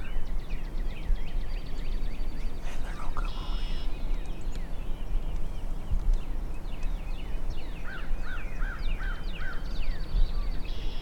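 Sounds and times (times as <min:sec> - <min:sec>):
low wind rumble: 0:00.0 - 0:11.0
songbirds chirping: 0:00.0 - 0:11.0.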